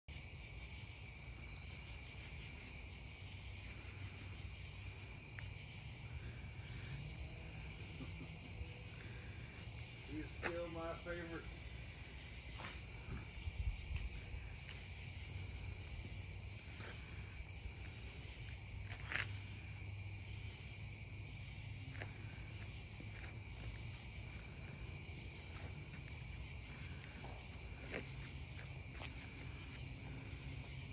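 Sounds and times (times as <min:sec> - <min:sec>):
night insects trilling: 0:00.1 - 0:30.9.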